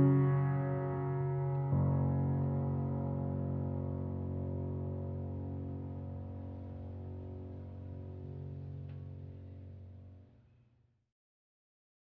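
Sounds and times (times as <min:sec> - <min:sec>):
soft sustained chord music: 0:00.0 - 0:10.3.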